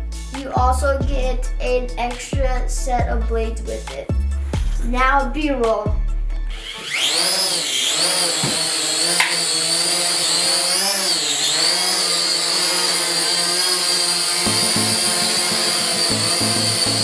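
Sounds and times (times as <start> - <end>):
quadcopter propeller motors whining: 1.1 - 17.0.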